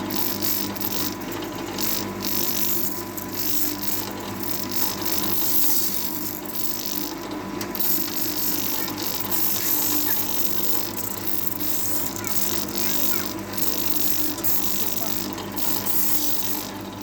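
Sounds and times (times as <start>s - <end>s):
sharpening machine motor humming: 0.0s - 17.0s.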